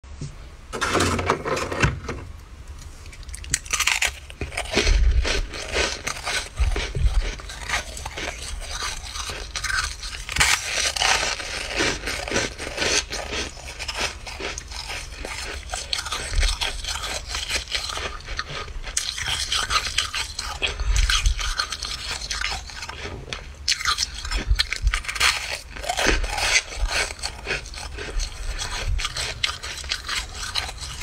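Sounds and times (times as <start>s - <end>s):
freezer frost crunching: 2.8s - 31.0s.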